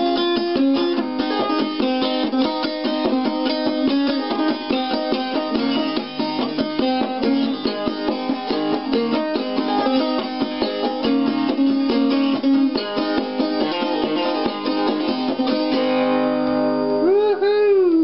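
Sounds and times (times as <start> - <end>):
banjo plucked notes: 0.0 - 17.3.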